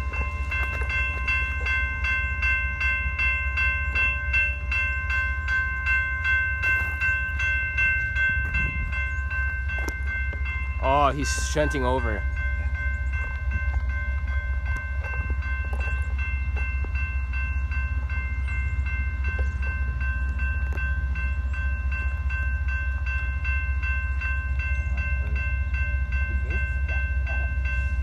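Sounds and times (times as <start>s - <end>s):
bell ringing quickly: 0.0s - 28.0s
distant diesel train rumble: 0.0s - 28.0s.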